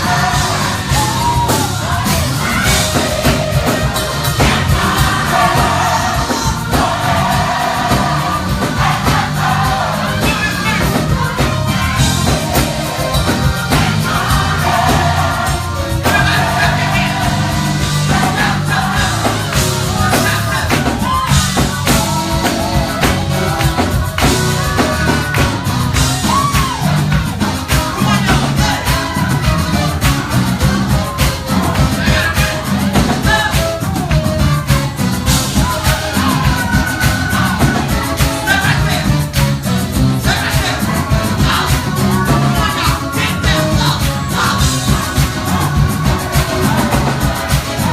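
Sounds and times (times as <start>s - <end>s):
band with bass and drums: 0.0s - 47.9s
choir singing: 0.0s - 47.9s.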